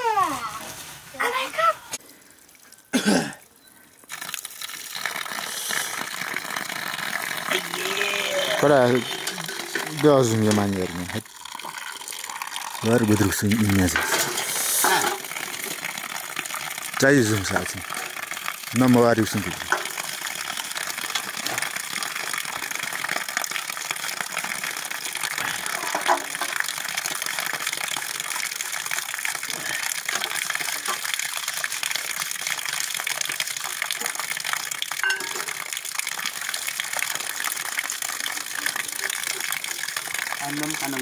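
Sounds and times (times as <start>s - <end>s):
water gushing: 4.1s - 41.0s.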